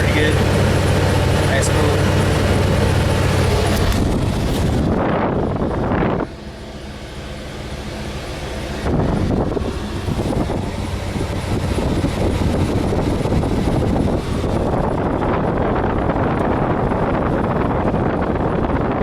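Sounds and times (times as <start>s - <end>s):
air conditioning blower rushing: 0.0s - 19.0s
truck engine idling: 0.0s - 19.0s.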